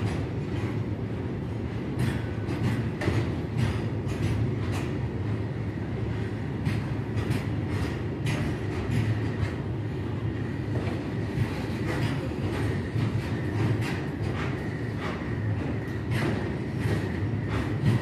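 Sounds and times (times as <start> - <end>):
freight train rumble: 0.0 - 18.0.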